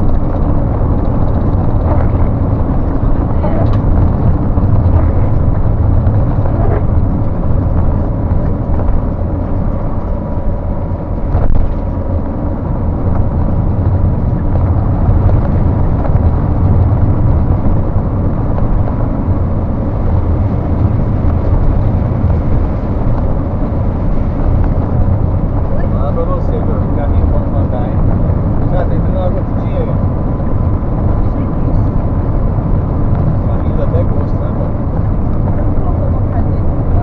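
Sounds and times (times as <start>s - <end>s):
vehicle driving on highway: 0.0s - 37.0s.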